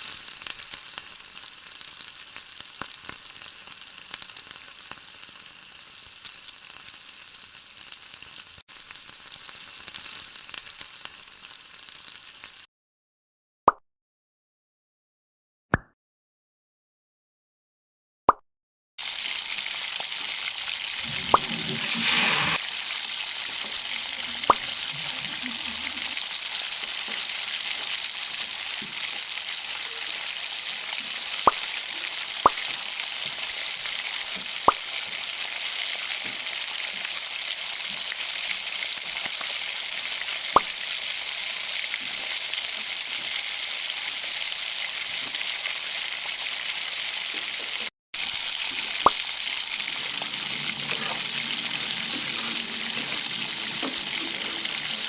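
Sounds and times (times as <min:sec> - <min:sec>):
chicken sizzling in hot oil: 0:00.0 - 0:12.7, 0:19.0 - 0:55.0.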